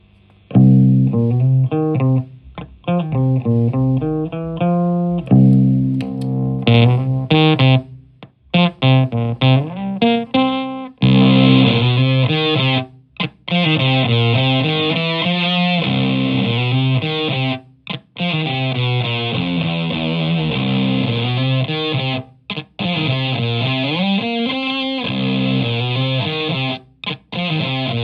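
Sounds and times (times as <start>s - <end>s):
fuzz electric guitar riffs: 0.4s - 28.0s
fuzzy guitar chord ringing: 0.5s - 28.0s.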